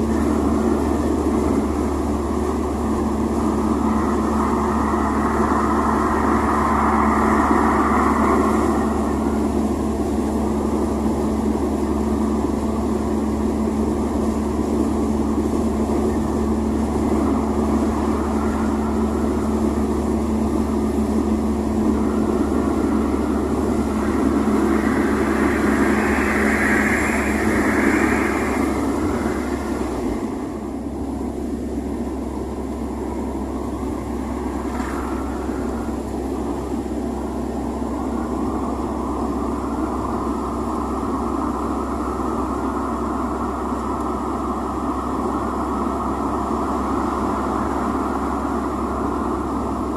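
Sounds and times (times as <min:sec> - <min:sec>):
car engine running: 0:00.0 - 0:49.9.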